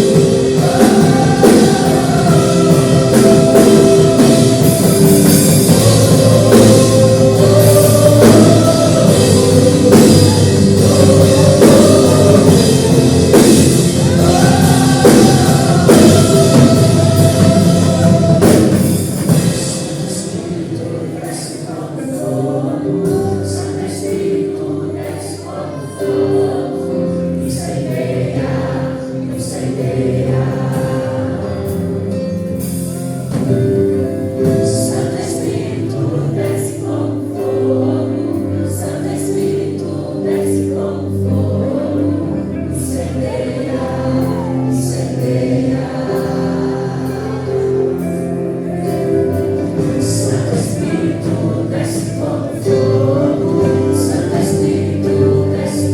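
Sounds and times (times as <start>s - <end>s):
backing band: 0.0s - 55.9s
group singing gospel song: 0.0s - 55.9s.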